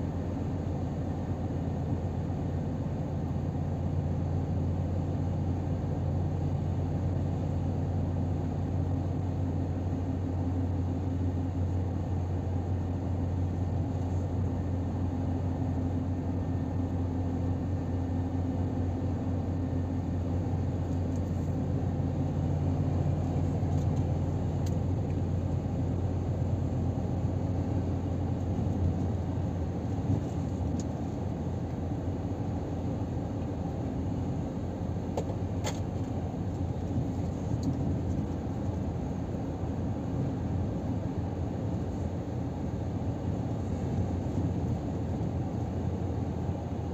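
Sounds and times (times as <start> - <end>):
road and tyre noise: 0.0 - 46.9
truck engine hum: 0.0 - 46.9.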